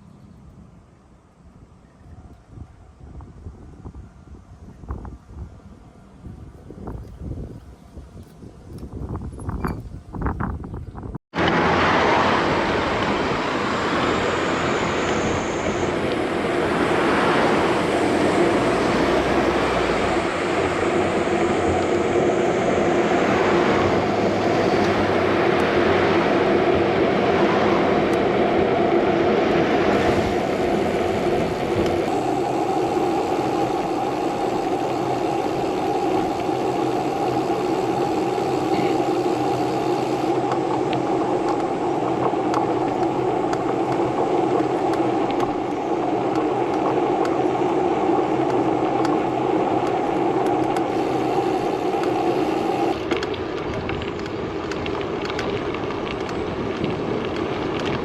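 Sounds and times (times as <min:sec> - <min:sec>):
vehicle droning hum: 0:11.4 - 0:58.0.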